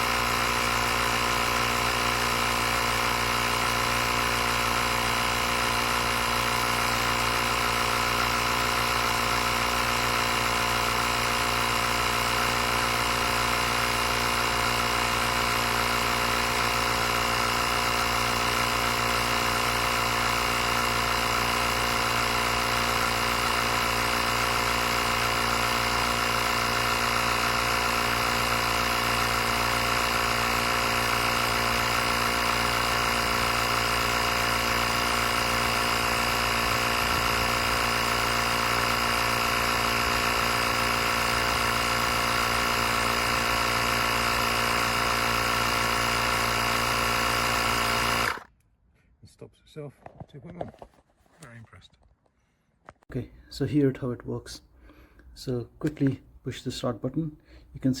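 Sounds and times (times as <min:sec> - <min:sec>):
electric air compressor humming: 0:00.0 - 0:48.5.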